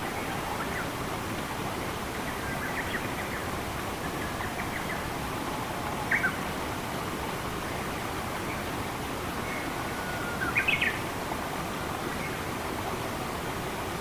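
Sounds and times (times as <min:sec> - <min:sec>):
flowing water: 0:00.0 - 0:14.0.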